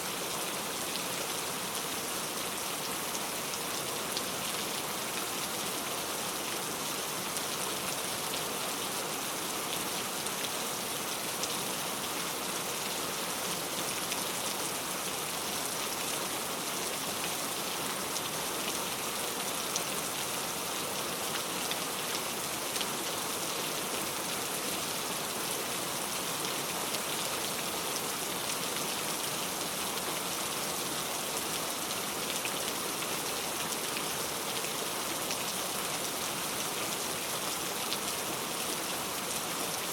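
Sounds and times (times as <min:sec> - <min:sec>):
heavy rain on a road: 0:00.1 - 0:39.9.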